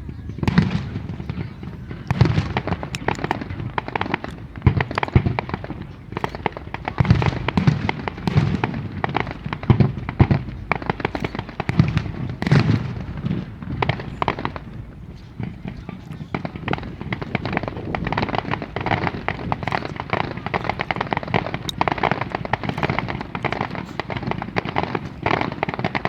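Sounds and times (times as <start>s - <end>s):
fireworks bangs and crackles: 0.0s - 26.0s
heavy fireworks booms: 0.0s - 26.0s.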